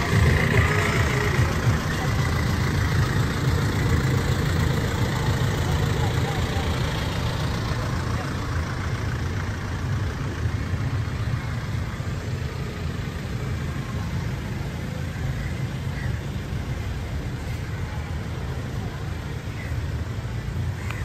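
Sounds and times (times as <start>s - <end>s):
street traffic: 0.0s - 21.0s
vehicle engine idling: 0.0s - 21.0s.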